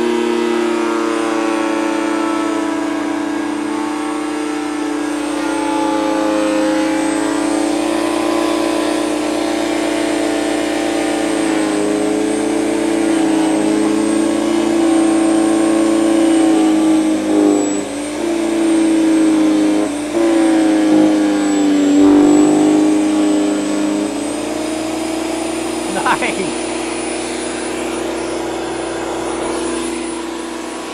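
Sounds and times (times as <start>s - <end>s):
electric chipper shredder motor humming: 0.0s - 30.9s.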